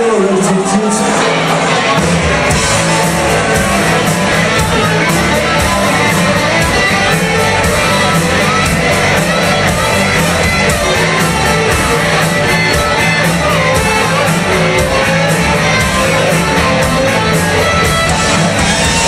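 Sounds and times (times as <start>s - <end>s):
guitar: 0.0s - 19.0s
live rock band playing: 0.0s - 19.0s.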